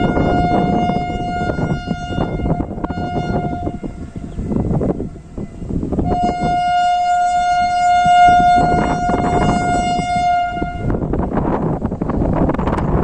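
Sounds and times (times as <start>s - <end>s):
train horn blast: 0.0s - 11.5s
train rumbling: 0.0s - 13.0s
wind noise: 0.0s - 13.0s.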